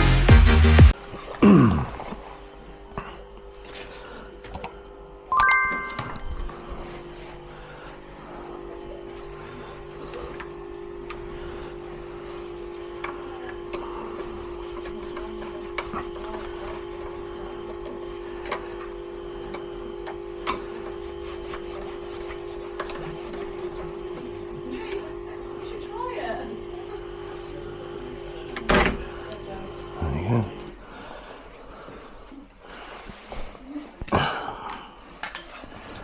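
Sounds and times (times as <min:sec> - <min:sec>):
mechanical hum: 0:00.9 - 0:36.0.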